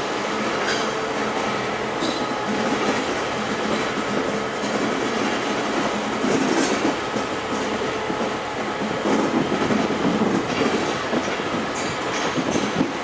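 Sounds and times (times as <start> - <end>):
train wheels clattering over rails: 0.0 - 13.0.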